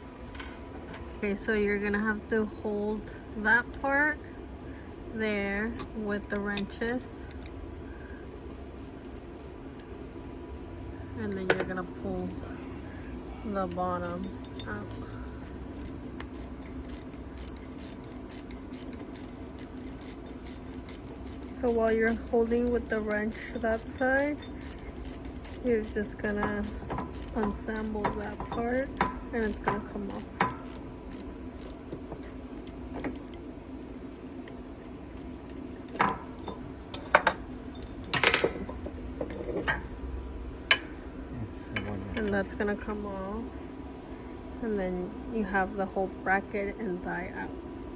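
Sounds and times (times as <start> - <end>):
low machine hum: 0.0 - 47.9.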